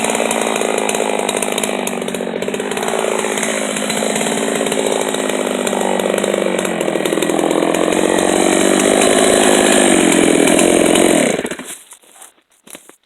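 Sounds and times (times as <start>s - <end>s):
chainsaw cutting log: 0.0s - 12.1s.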